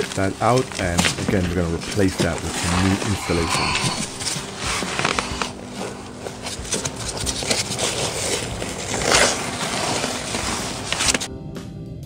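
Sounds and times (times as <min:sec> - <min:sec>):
insulation tearing and scraping: 0:00.0 - 0:11.3.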